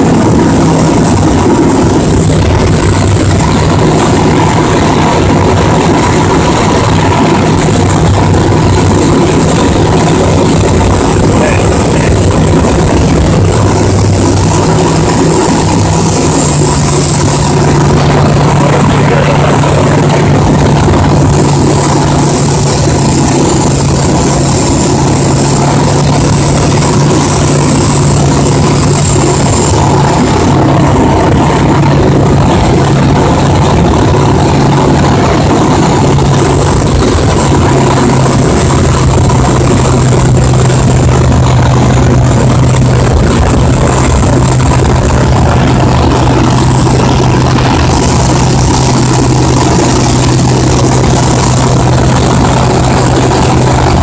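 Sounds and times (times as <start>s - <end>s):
light aircraft engine drone: 0.0s - 54.0s
rushing noise: 0.0s - 54.0s.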